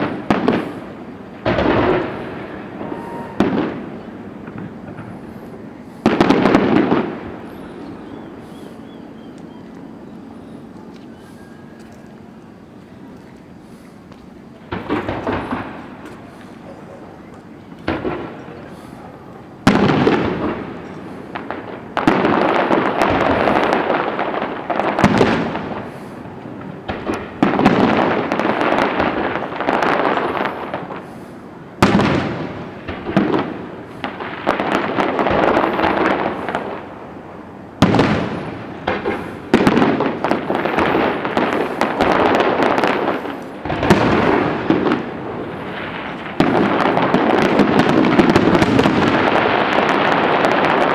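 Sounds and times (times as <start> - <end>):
fireworks bangs: 0.0 - 50.9
fireworks crackle: 0.0 - 50.9.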